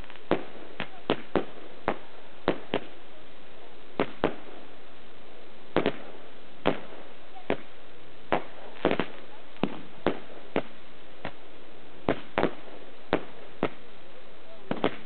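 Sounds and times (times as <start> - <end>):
background hiss: 0.0 - 15.0
fireworks bangs: 0.0 - 15.0.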